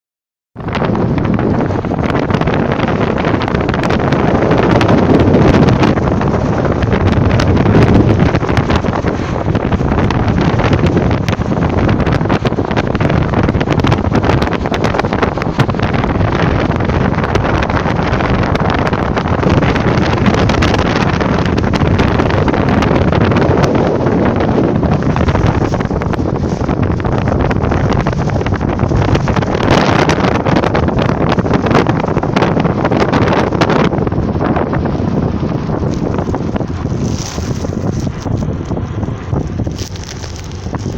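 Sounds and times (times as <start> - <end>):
wind buffeting microphone: 0.6 - 40.9.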